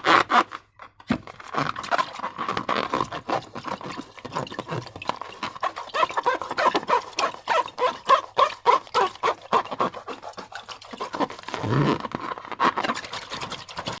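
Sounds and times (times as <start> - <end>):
wet squelches and rubbery squeaks: 0.0 - 14.0.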